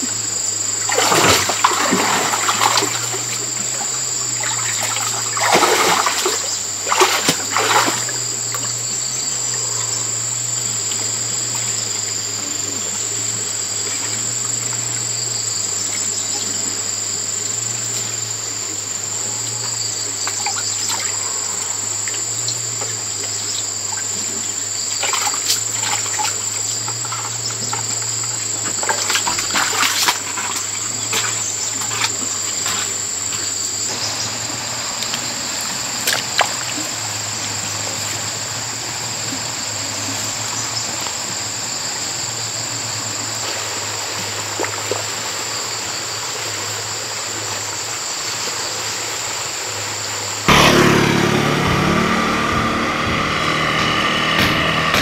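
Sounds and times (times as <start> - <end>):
high insect drone: 0.0 - 55.0
splashing through shallow water: 0.0 - 55.0.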